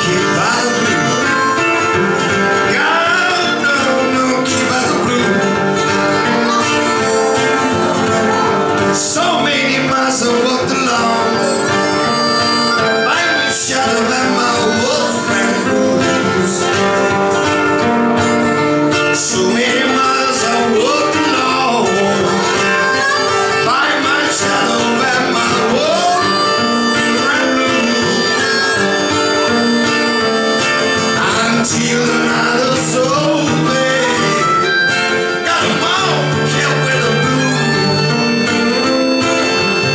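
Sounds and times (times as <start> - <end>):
acoustic guitar: 0.0 - 39.9
harmonica playing: 0.0 - 39.9.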